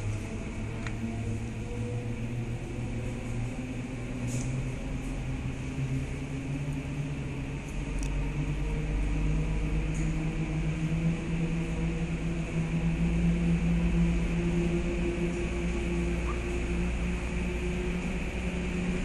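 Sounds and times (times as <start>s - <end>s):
cable car mechanical hum: 0.0s - 19.0s.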